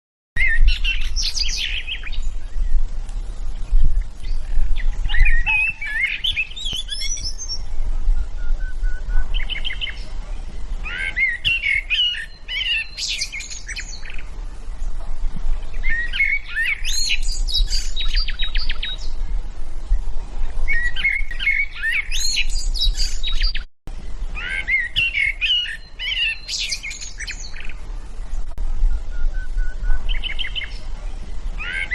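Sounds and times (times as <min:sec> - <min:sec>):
songbird warbling and trilling: 0:00.4 - 0:31.9.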